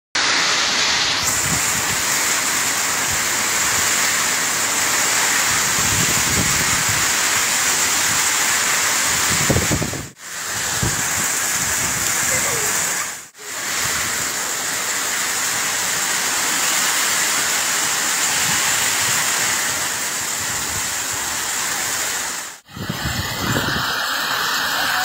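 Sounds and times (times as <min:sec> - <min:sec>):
heavy rain pouring: 0:00.2 - 0:25.0.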